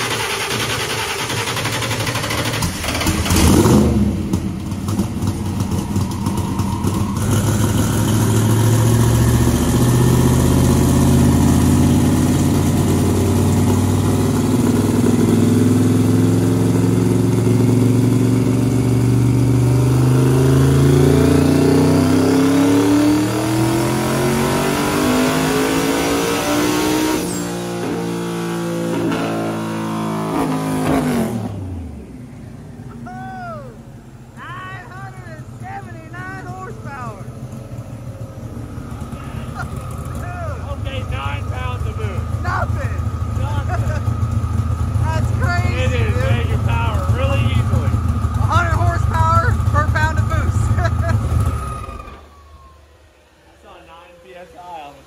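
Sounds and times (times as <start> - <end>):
car engine at full throttle: 0.0 - 53.6.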